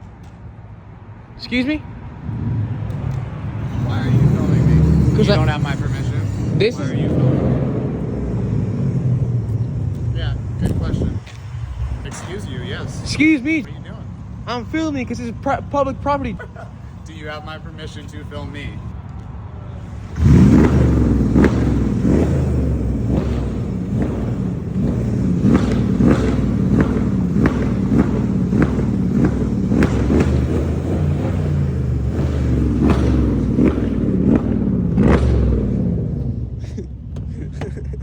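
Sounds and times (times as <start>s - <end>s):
car engine revving: 1.4s - 38.0s
exhaust crack: 1.4s - 38.0s.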